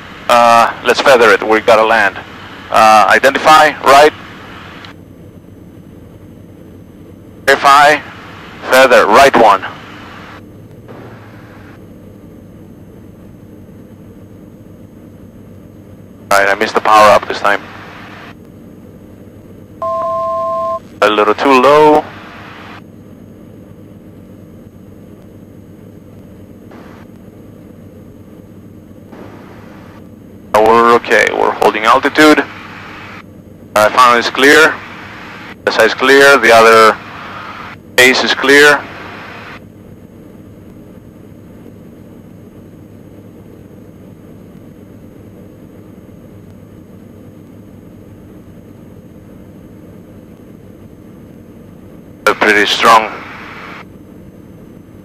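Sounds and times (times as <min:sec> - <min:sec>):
aircraft engines droning in cockpit: 0:00.0 - 0:55.0.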